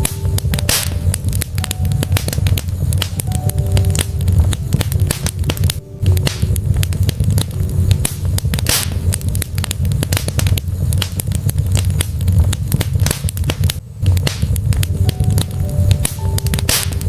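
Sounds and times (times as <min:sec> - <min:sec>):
fire hissing: 0:00.0 - 0:17.0
log fire crackling and popping: 0:00.0 - 0:17.0.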